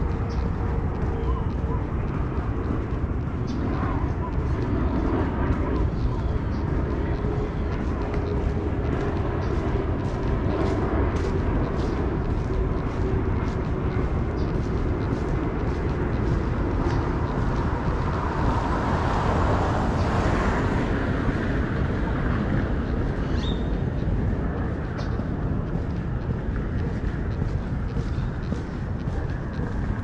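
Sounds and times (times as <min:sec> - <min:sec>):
footsteps walking: 0:00.0 - 0:30.0
traffic noise: 0:00.0 - 0:30.0
vehicle passing: 0:05.8 - 0:30.0.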